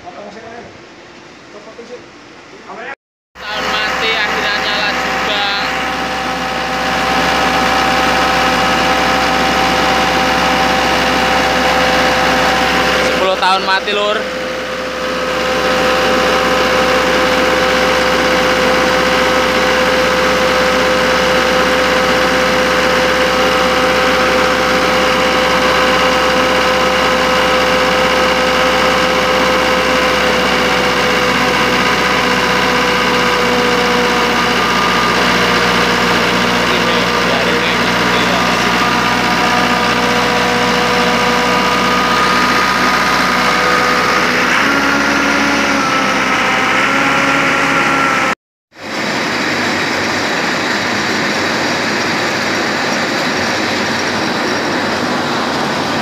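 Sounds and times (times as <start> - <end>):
diesel pump engine running: 3.4 - 56.0.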